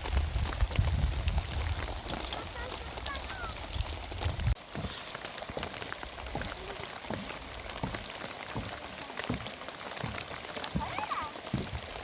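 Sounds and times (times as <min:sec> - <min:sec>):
heavy rain falling: 0:00.0 - 0:12.0
raindrops tapping close by: 0:00.0 - 0:12.0.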